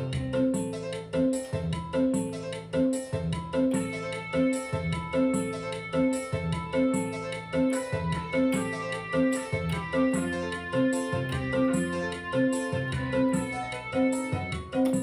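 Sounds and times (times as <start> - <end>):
drum and bass accompaniment: 0.0 - 15.0
keyboard melody: 0.0 - 15.0.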